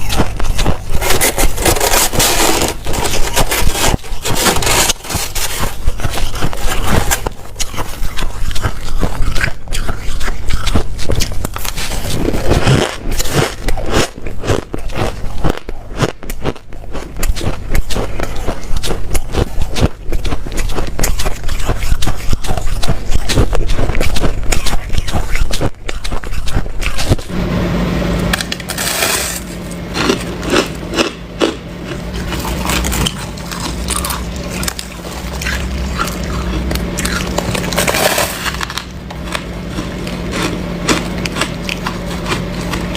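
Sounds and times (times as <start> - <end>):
crunching ice while chewing: 0.0 - 27.3, 28.4 - 42.9.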